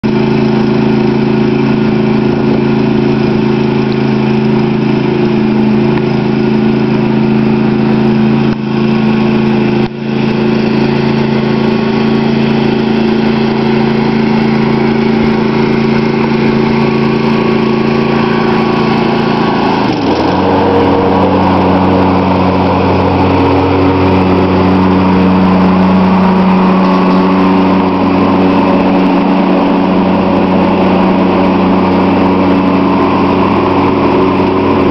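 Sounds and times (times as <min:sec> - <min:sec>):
lawn tractor engine running: 0:00.0 - 0:34.9.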